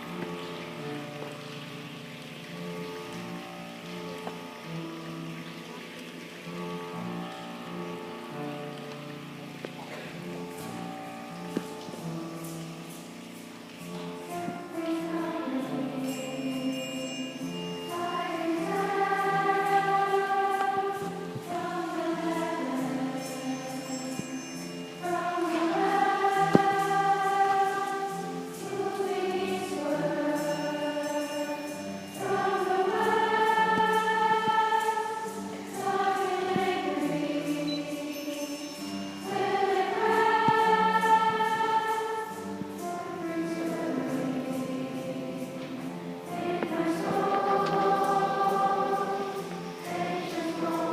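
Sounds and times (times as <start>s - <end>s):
choir singing held chords: 0.0s - 1.3s, 6.4s - 50.9s.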